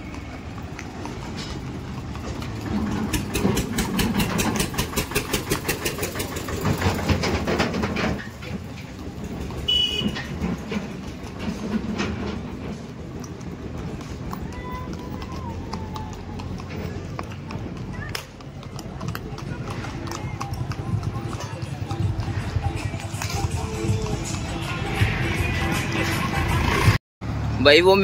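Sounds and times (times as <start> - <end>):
horse hooves clattering on pavement: 0.0 - 27.0
low rumble of traffic: 0.0 - 28.0.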